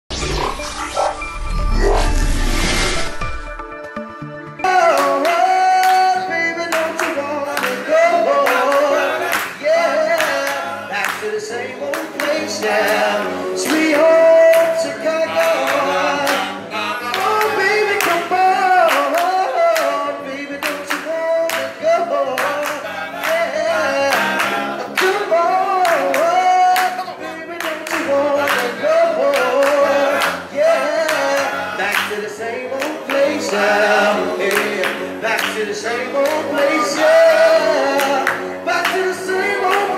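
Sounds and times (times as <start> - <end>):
men singing in harmony: 4.6 - 39.9.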